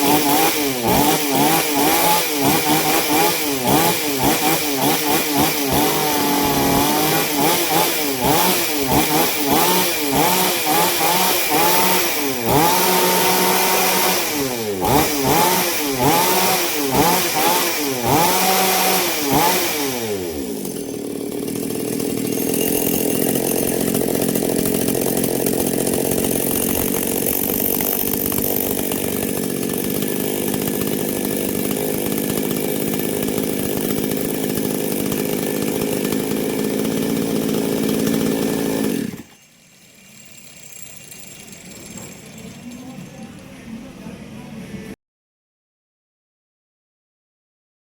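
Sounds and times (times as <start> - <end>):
chainsaw engine revving: 0.0 - 39.4.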